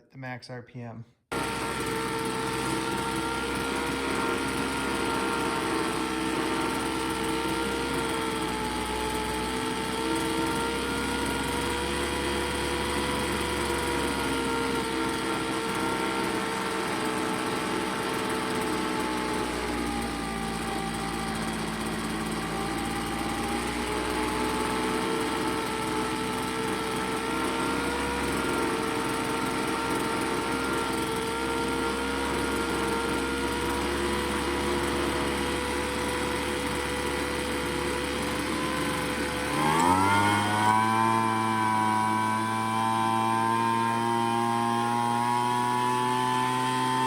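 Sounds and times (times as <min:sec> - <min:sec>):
leaf blower engine running: 0:01.3 - 0:47.0.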